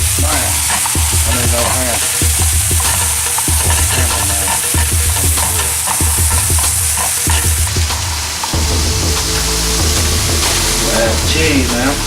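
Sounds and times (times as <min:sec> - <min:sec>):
steak sizzling in a frying pan: 0:00.0 - 0:11.9.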